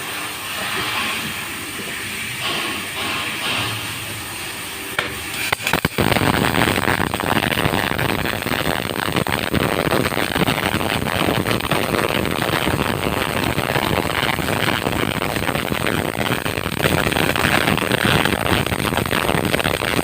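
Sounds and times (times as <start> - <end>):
welding arc crackling and sizzling: 0.0 - 20.0.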